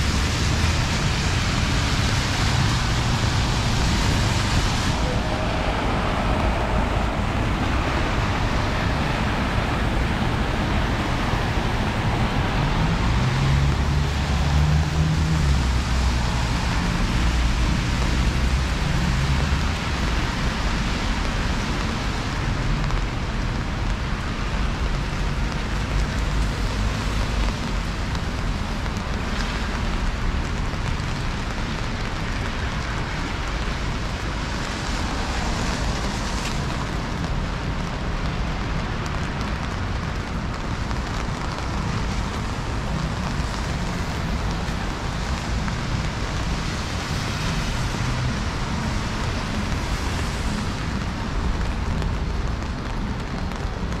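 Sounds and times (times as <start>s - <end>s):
rain falling on street: 0.0s - 54.0s
road traffic rumble: 0.0s - 54.0s.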